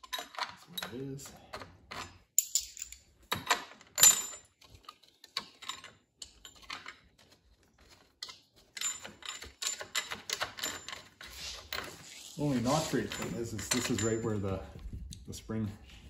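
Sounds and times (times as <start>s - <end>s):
washer and nut clinking on bolt: 0.0s - 14.6s.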